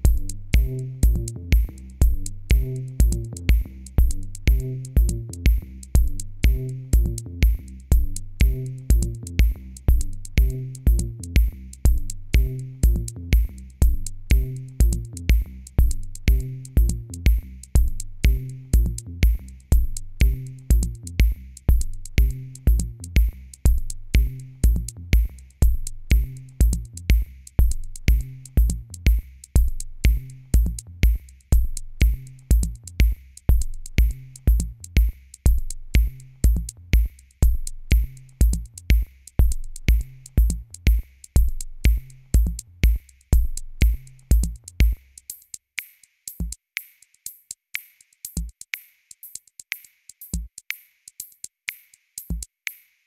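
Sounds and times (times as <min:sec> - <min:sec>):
electronic music with drum beat: 0:00.0 - 0:53.0.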